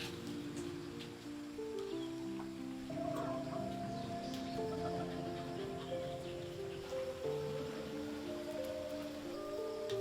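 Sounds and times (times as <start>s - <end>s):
background music of held notes: 0.0s - 10.0s.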